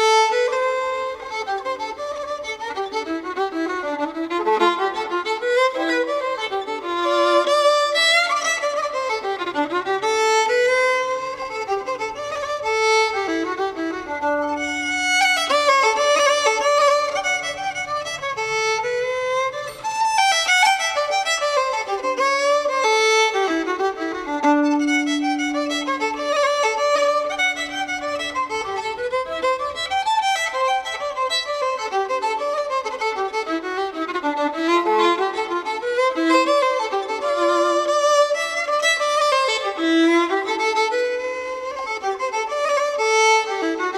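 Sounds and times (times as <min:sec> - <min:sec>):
fiddle playing lively melody: 0:00.0 - 0:43.9.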